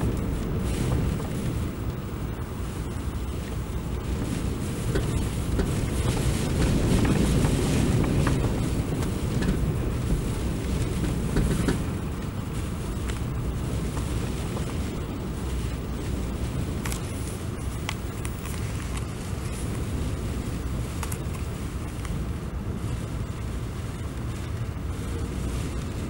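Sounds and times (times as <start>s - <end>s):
surf breaking on rocks: 0.0s - 22.3s
wind buffeting microphone: 0.0s - 26.0s.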